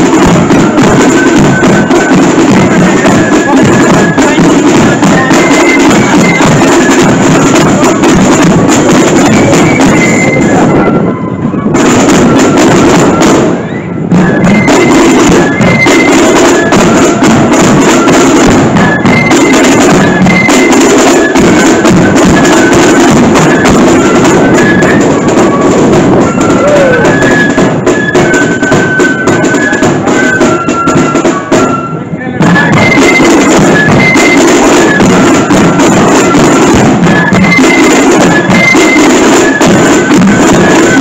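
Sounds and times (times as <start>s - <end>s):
flute melody: 0.0s - 41.0s
snare and bass drum beats: 0.0s - 41.0s.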